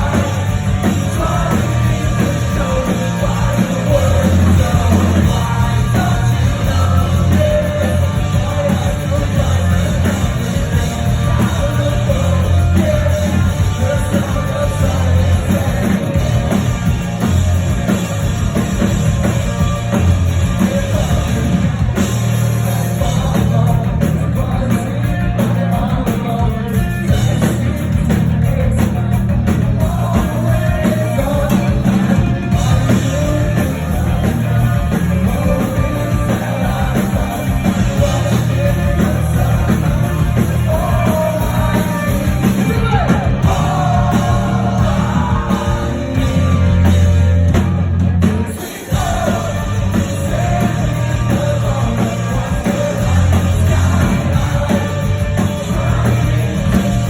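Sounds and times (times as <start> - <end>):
rock music with singing: 0.0 - 57.0.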